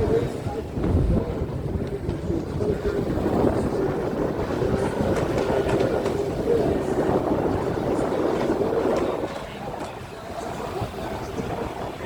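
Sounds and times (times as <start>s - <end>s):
jet skis engines droning: 0.0s - 12.0s.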